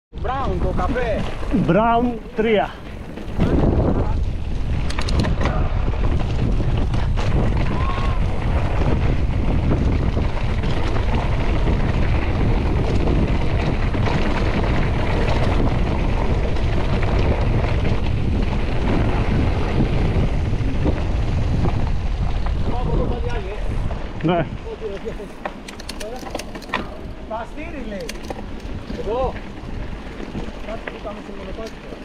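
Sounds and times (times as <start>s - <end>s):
wind rushing over microphone: 0.1s - 32.0s
bike rolling over trail rumble: 0.2s - 32.0s.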